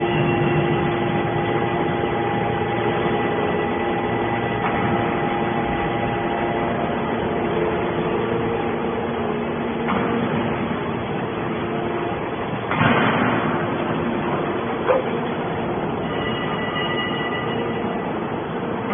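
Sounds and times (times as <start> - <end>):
constant machine whine: 0.0 - 18.9
heavy machinery engine running: 0.0 - 18.9.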